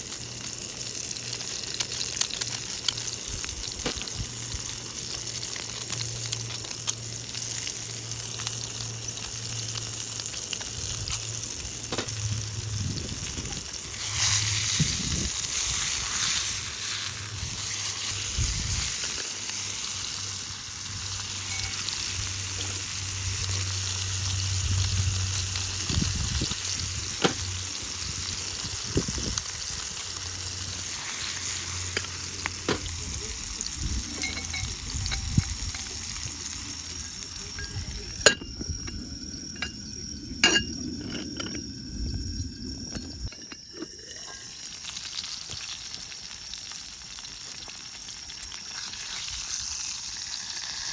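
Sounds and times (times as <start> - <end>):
food sizzling in a pan: 0.0 - 50.9.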